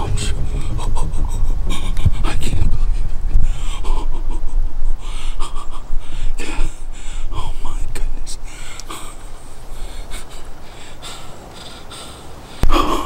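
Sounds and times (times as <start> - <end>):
person breathing hard: 0.0 - 7.8, 8.4 - 13.0
low rumble on microphone: 0.0 - 11.5.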